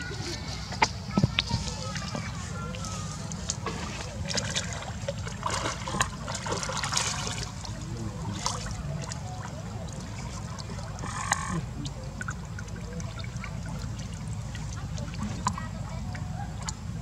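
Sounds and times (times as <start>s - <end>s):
water splashing: 0.0s - 17.0s.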